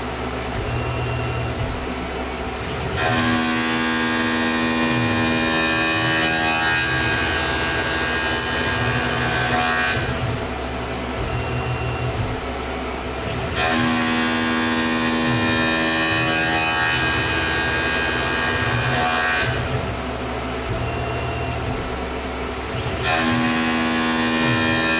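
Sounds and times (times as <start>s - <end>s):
low machine rumble: 0.0s - 24.9s
milling machine whine: 0.0s - 24.9s.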